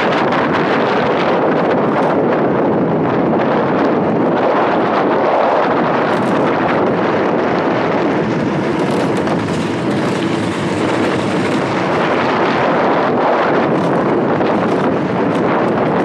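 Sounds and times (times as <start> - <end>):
hard tyres rumbling on asphalt: 0.0 - 16.0
wind over the microphone: 0.0 - 16.0.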